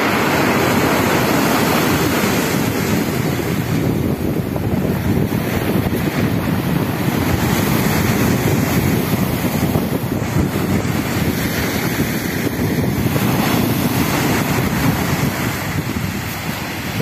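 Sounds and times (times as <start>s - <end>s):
waves breaking on pebble shore: 0.0s - 17.0s
wind rumbling on microphone: 0.0s - 17.0s.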